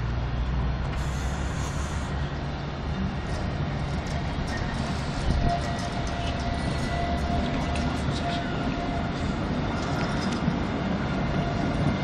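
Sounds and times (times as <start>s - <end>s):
tram rumbling: 0.0s - 12.0s
thin steady whine: 0.9s - 11.9s.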